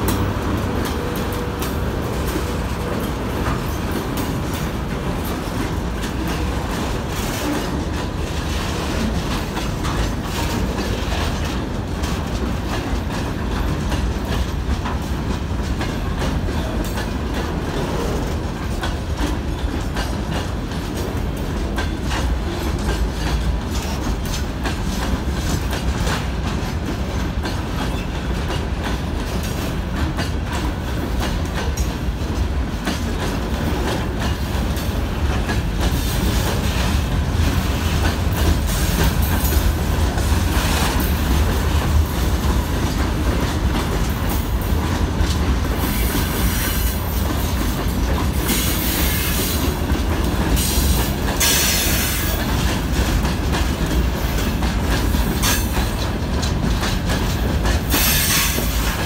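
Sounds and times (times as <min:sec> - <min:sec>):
train wheels rumbling: 0:00.0 - 0:59.0
wheels clacking over rail joints: 0:00.0 - 0:59.0.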